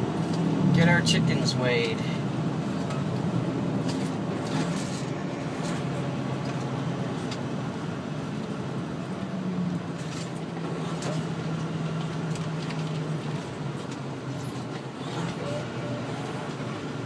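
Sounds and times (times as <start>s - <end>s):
truck engine drone: 0.0s - 17.0s
tyre and road noise: 0.0s - 17.0s.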